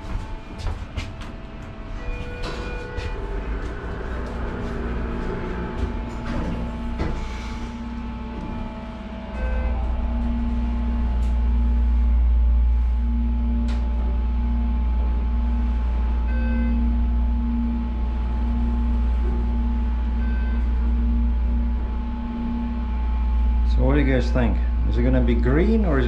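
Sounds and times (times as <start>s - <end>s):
elevator rumble and motor hum: 0.0s - 26.0s.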